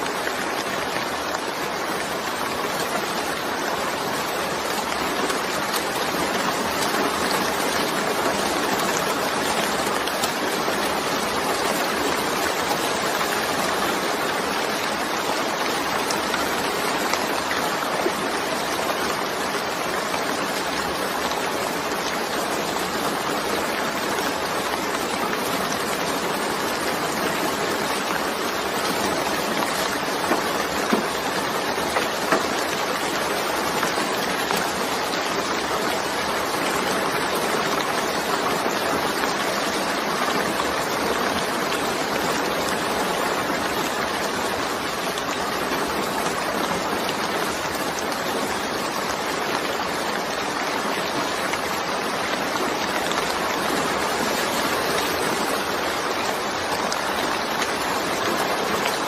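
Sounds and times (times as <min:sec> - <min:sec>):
rain drop impacts: 0:00.0 - 0:59.0
steady rain hiss: 0:00.0 - 0:59.0.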